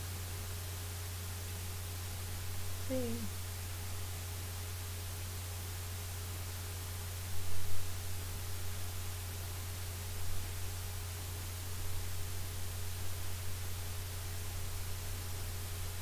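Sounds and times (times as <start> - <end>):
low constant hum: 0.0 - 16.0.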